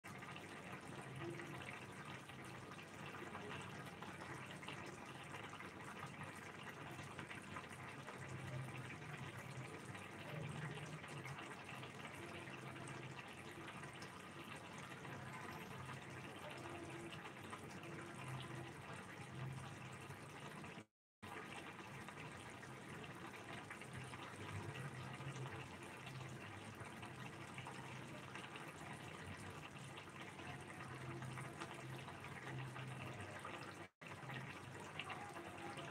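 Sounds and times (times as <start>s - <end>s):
gravy simmering and bubbling: 0.0s - 35.9s.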